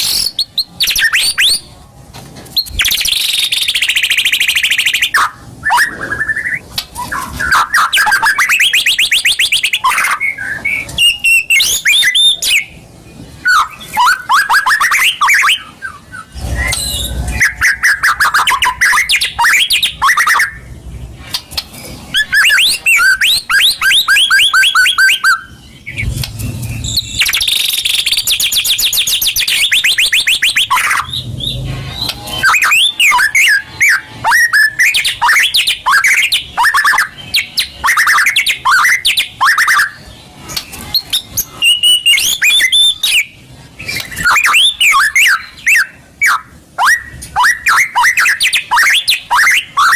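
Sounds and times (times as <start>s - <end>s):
songbird singing trills and whistles: 0.0s - 1.7s, 2.5s - 49.9s.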